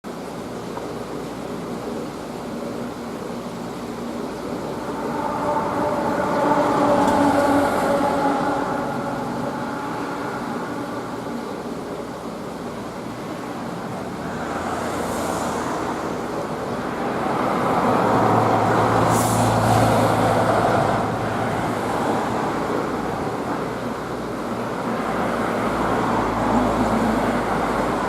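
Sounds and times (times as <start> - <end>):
outdoor rushing noise: 2.7 - 28.0
vehicle engine hum passing: 2.8 - 28.0.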